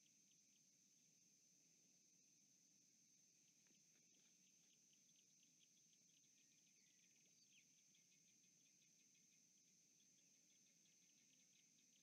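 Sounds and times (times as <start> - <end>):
insect chorus: 0.0 - 12.0
small chirps and ticks: 0.0 - 12.0.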